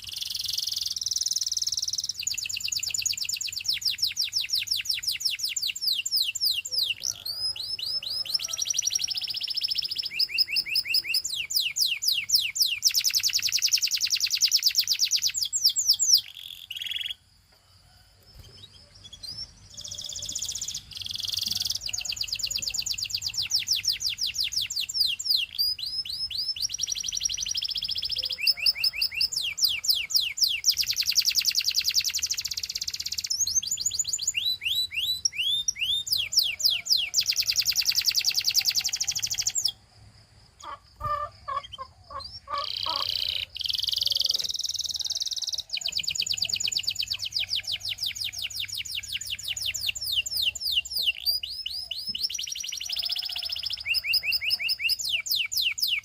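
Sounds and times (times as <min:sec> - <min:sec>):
canary singing trills: 0:00.0 - 0:17.3, 0:18.3 - 0:39.9, 0:40.6 - 0:56.0.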